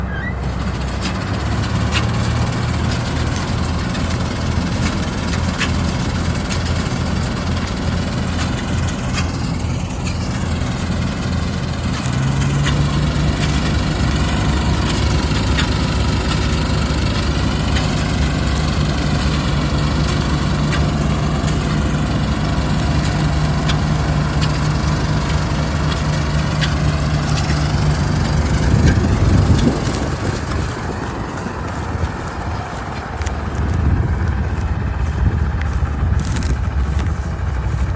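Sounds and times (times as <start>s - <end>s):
combine harvester engine clatter: 0.0s - 37.9s.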